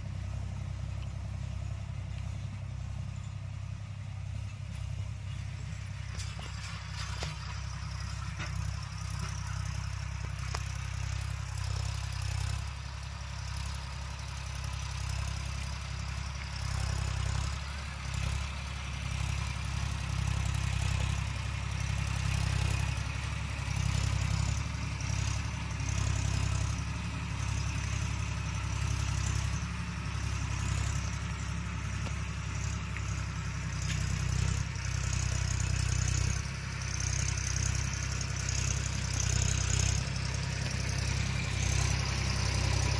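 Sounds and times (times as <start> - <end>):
tractor diesel engine droning: 0.0 - 42.9.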